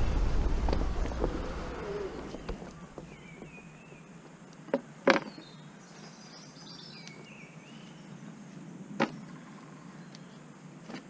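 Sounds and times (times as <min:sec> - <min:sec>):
outdoor ambience: 0:00.0 - 0:11.0
songbirds singing: 0:00.0 - 0:11.0.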